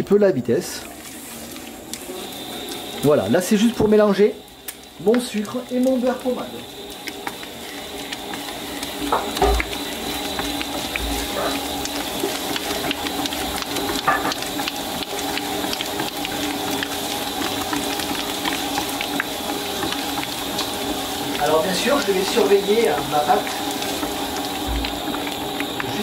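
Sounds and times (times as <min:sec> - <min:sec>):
stand mixer running: 0:00.5 - 0:26.0.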